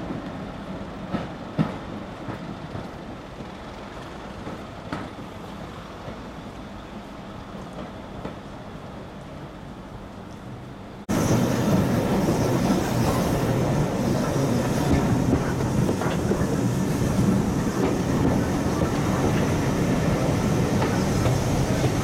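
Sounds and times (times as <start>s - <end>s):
train running on track: 0.0s - 22.0s.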